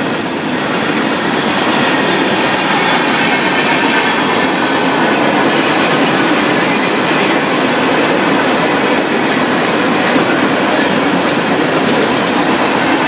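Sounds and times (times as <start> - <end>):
freight train rolling on rails: 0.0 - 13.0
heavy rain falling: 0.0 - 13.0.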